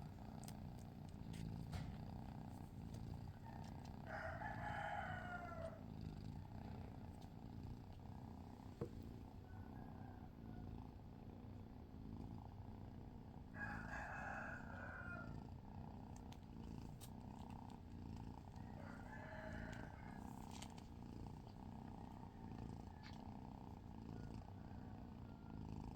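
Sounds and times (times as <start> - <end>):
cat purring: 0.0 - 13.9, 14.5 - 25.9.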